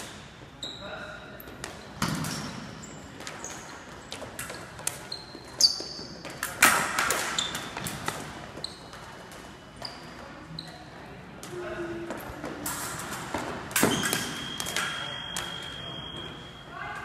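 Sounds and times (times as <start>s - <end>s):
sneakers squeaking and stamping: 0.0s - 10.9s, 12.1s - 16.6s.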